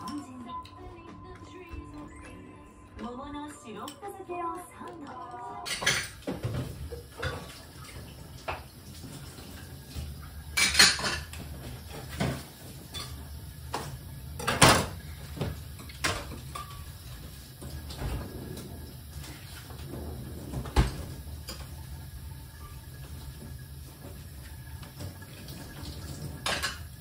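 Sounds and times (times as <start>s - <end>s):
dishes clinking in a sink: 0.0s - 2.4s, 5.2s - 27.0s.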